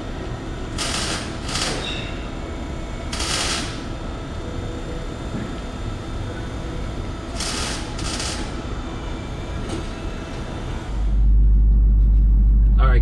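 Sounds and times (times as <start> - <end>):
workshop machinery noise: 0.0 - 11.4.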